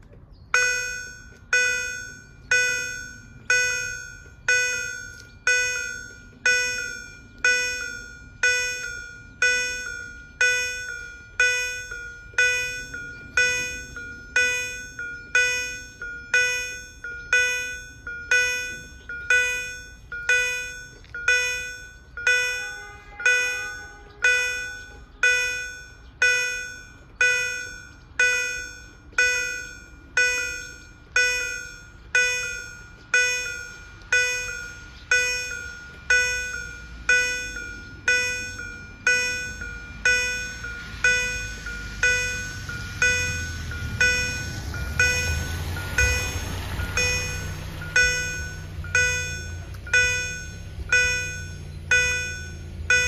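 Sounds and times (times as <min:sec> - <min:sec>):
level crossing warning bells: 0:00.0 - 0:53.0.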